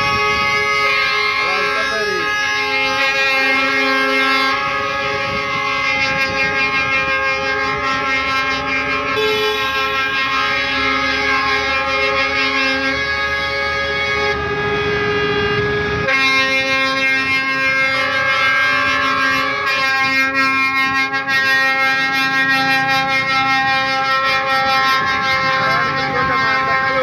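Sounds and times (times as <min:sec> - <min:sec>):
truck air horns blaring: 0:00.0 - 0:27.0.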